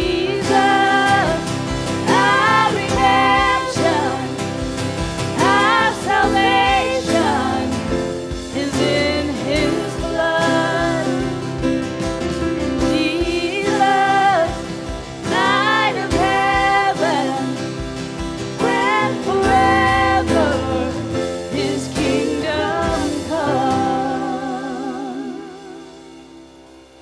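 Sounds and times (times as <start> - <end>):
person singing with vibrato: 0.0 - 11.9, 12.7 - 26.3
acoustic guitar: 0.0 - 27.0
drums: 0.0 - 27.0
piano: 0.0 - 27.0.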